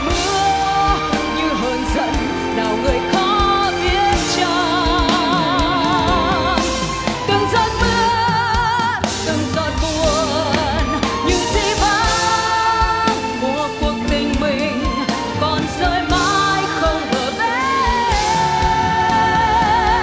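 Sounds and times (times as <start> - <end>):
band with drums and strings: 0.0 - 20.0
woman singing with vibrato: 0.0 - 20.0.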